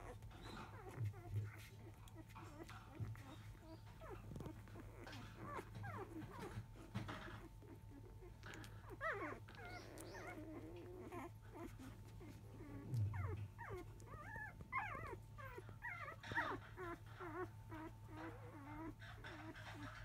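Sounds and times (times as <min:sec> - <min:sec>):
puppies whimpering and squeaking: 0:00.0 - 0:20.0.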